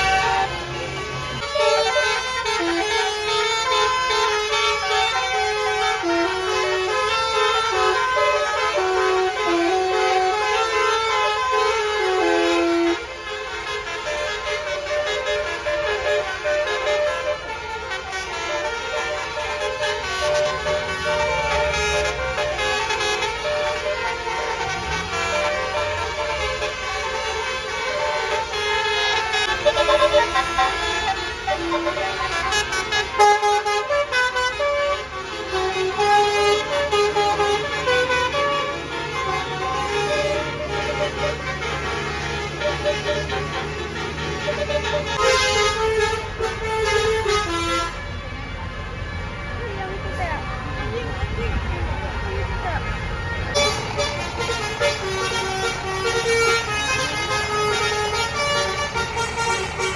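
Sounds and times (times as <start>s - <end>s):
bus engine running: 0.0s - 59.9s
multi-tone bus horn melody: 0.0s - 59.9s.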